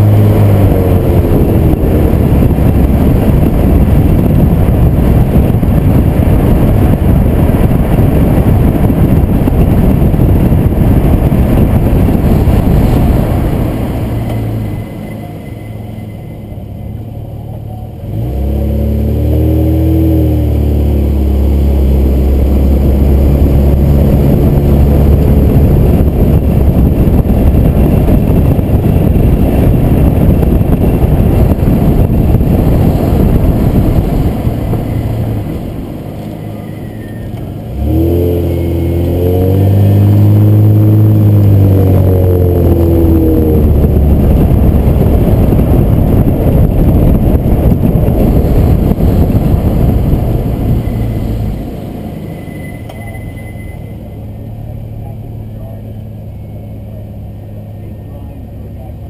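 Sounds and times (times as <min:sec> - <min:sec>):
car engine accelerating: 0:00.0 - 0:59.0
road and wind rumble: 0:00.0 - 0:59.0.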